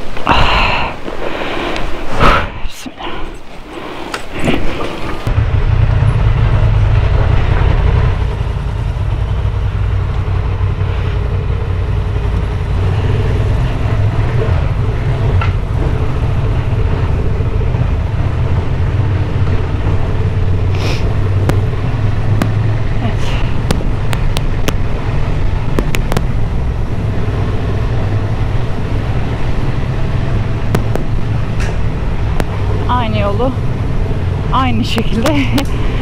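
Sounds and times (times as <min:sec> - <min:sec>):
motorcycle engine rumble: 0:03.3 - 0:36.0.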